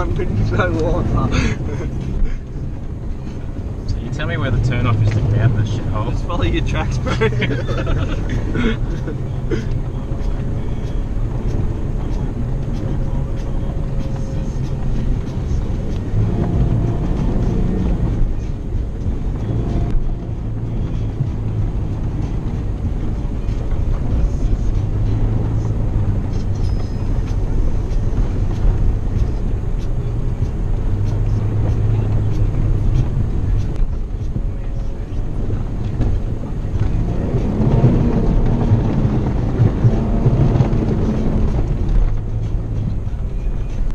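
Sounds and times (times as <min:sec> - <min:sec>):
engine drone: 0:00.0 - 0:43.9
tyre and road rumble: 0:00.0 - 0:43.9.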